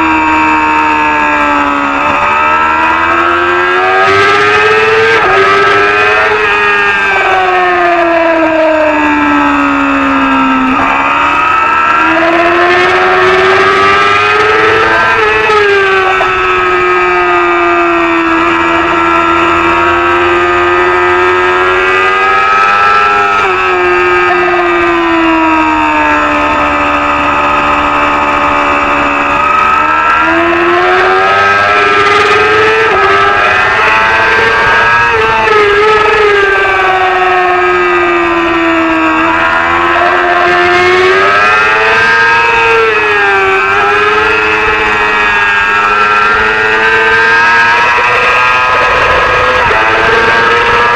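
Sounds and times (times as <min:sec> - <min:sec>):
racing motorcycle engine revving: 0:00.0 - 0:50.9.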